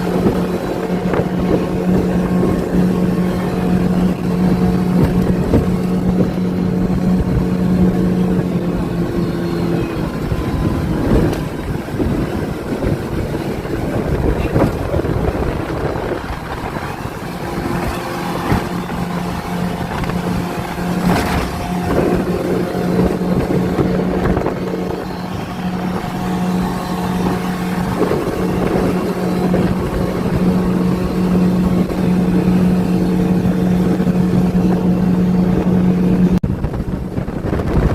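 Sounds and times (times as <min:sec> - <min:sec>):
outboard motor running: 0:00.0 - 0:37.9
water noise: 0:00.0 - 0:37.9
wind noise: 0:00.0 - 0:37.9.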